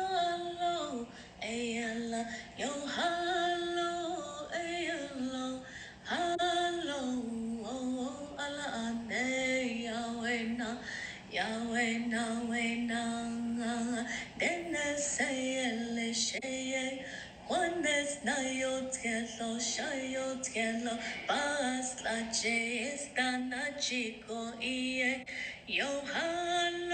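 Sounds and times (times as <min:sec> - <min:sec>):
woman singing unaccompanied: 0:00.0 - 0:26.9.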